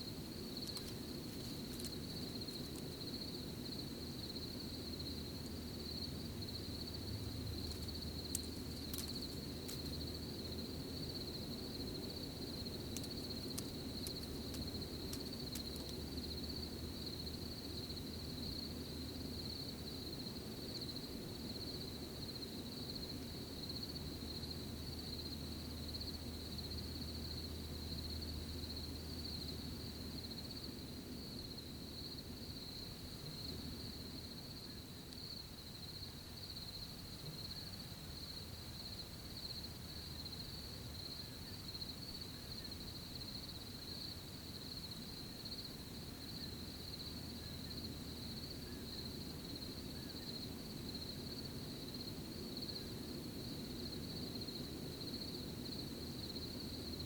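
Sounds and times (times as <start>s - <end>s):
crickets chirring: 0.0s - 57.0s
soft low background rumble: 0.0s - 57.0s.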